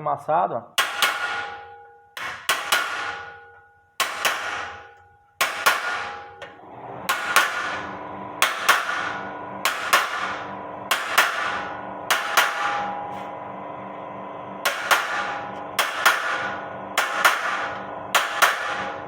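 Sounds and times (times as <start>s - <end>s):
sheet metal ringing: 0.8s - 6.5s, 7.1s - 13.2s, 14.6s - 19.0s
hammer striking steel punch: 0.8s - 13.2s, 14.6s - 19.0s.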